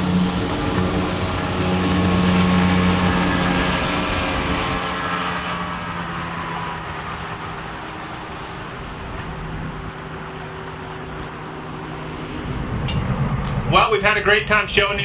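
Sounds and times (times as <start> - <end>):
outboard engine hum: 0.0 - 15.0
rushing water: 0.0 - 15.0
wind: 0.0 - 15.0.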